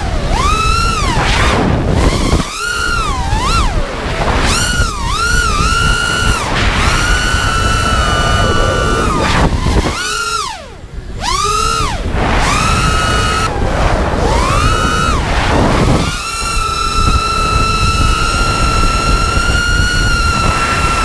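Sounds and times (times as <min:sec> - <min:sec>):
drone motors whining: 0:00.0 - 0:21.0
wind rumble on microphone: 0:00.0 - 0:21.0.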